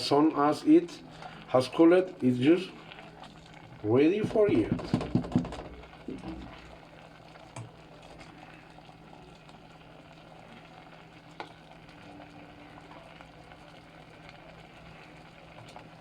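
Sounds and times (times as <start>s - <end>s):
rice pudding bubbling in a pot: 0.0s - 16.0s.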